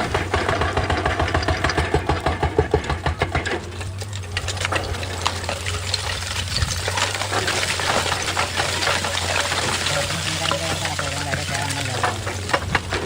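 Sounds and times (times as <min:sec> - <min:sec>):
crackling and rattling: 0:00.0 - 0:13.0
engine humming: 0:00.0 - 0:13.0.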